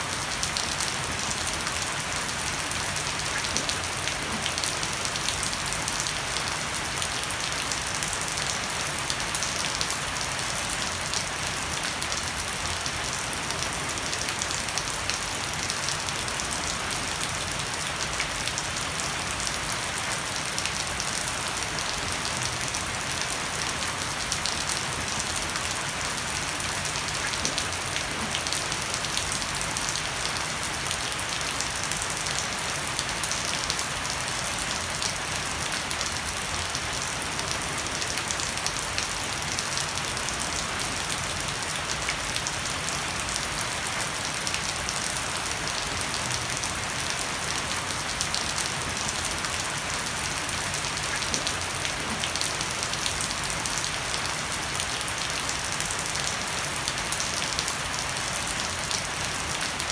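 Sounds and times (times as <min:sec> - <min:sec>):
heavy rain on deck and shrubs: 0:00.0 - 0:59.9.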